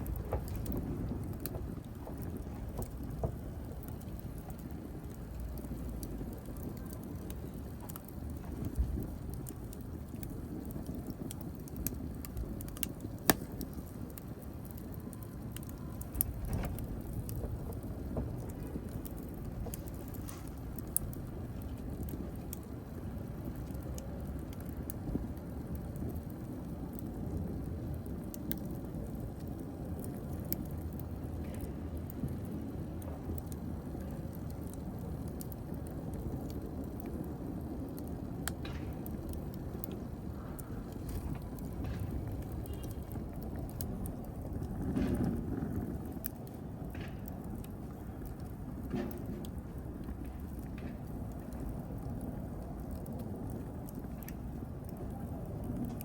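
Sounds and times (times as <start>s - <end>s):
fire rumbling in fireplace: 0.0s - 56.0s
wood crackling and popping: 0.0s - 56.0s.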